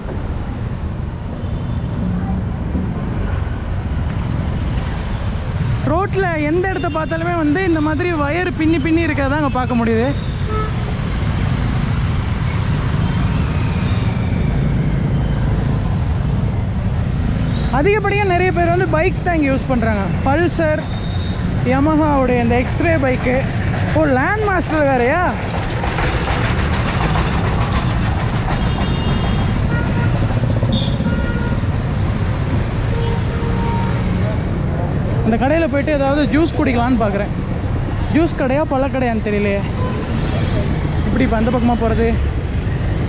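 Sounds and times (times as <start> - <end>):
motorbike and vehicle engines: 0.0 - 43.0
street traffic rumble: 0.0 - 43.0.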